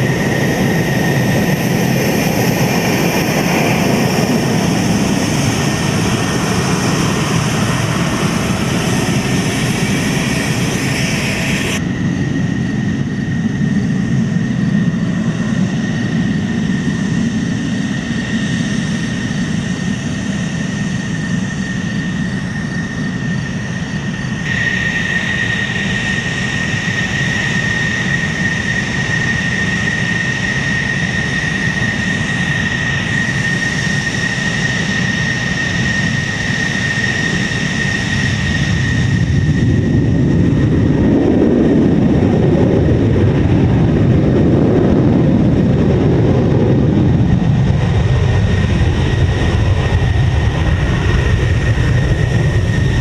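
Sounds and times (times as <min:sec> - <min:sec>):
jet engine whine and rumble: 0:00.0 - 0:53.0.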